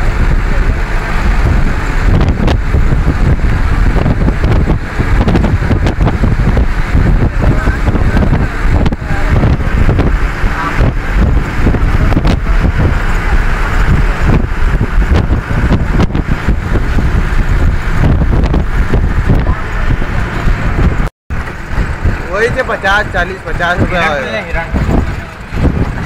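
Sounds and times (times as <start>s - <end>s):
engine and tyres rumbling: 0.0s - 26.0s
wind buffeting microphone: 0.0s - 26.0s.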